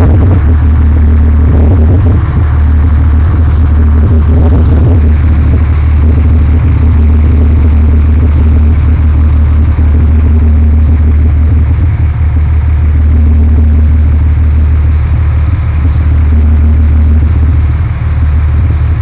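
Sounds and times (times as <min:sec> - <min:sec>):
boat engine drone: 0:00.0 - 0:19.0.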